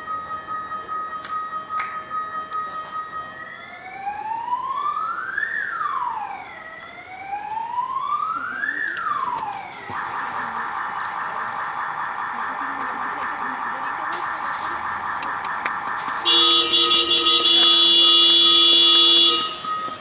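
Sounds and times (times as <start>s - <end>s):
emergency vehicle siren: 0.0s - 20.0s.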